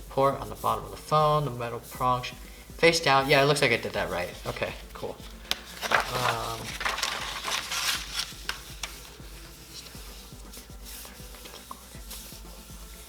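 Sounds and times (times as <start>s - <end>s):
cords and packaging rustling: 0.0s - 13.0s.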